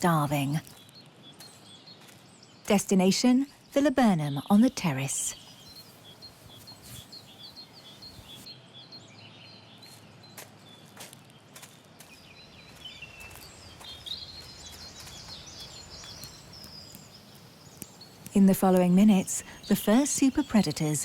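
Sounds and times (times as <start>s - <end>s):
faint outdoor hiss: 0.0s - 9.8s, 12.4s - 21.0s
small birds chirping: 0.0s - 21.0s.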